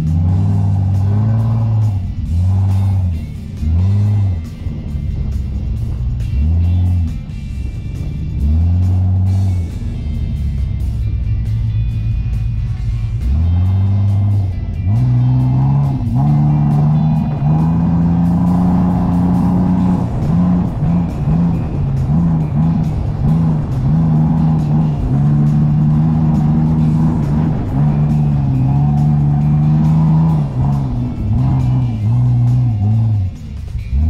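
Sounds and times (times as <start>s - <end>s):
engine pulling hard: 0.0s - 34.0s.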